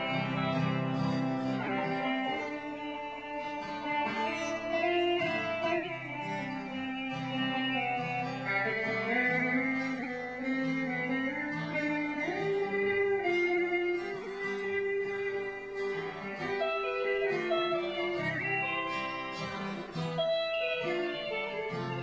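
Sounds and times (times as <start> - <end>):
guitar accompaniment: 0.0 - 22.0
melody of long held notes: 0.0 - 22.0.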